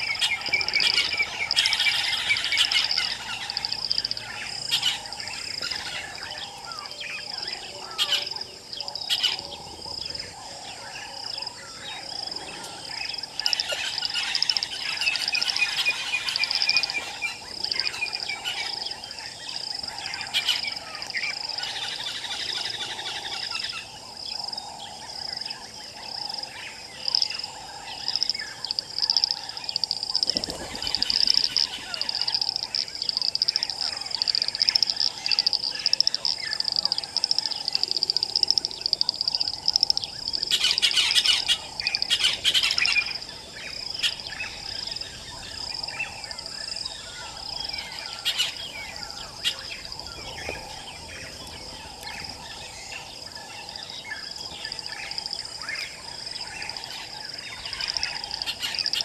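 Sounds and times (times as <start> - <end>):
pulsing insect drone: 0.0 - 59.0
wild birds chirping and calling: 0.0 - 59.0.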